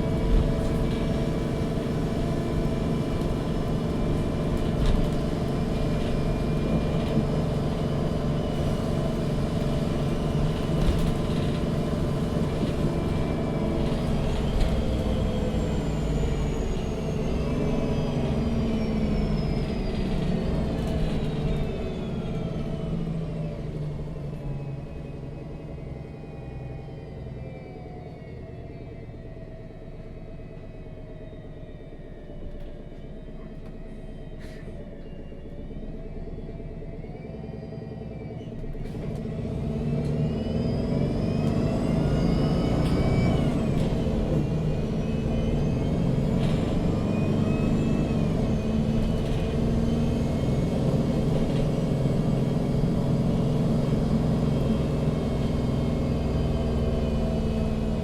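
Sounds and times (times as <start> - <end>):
bus engine and drivetrain whine: 0.0 - 58.0.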